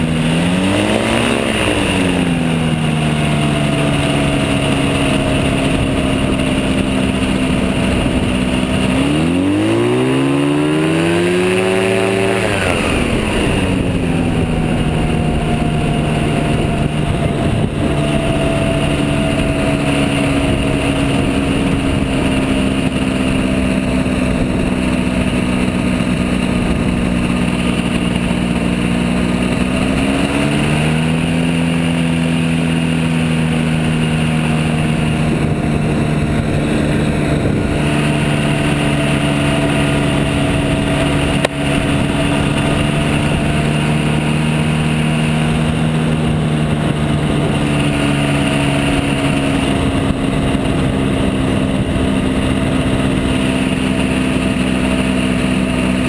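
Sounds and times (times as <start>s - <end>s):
gyrocopter engine revving: 0.0s - 56.0s
noisy rush: 0.0s - 56.0s.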